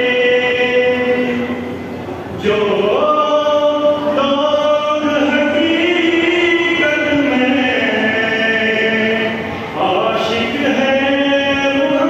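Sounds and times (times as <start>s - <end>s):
devotional chanting: 0.0s - 12.0s.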